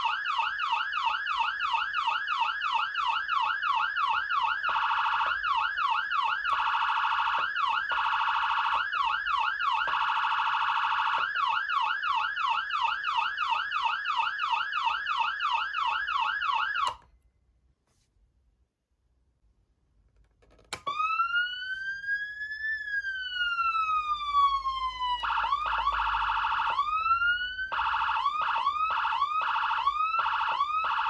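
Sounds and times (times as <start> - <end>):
electronic siren yelp and warble: 0.0 - 17.0, 20.8 - 31.0.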